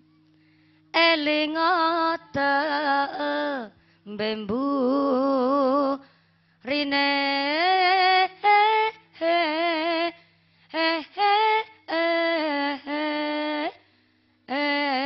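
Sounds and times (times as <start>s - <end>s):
woman singing into a microphone: 0.9s - 13.8s, 14.4s - 15.0s.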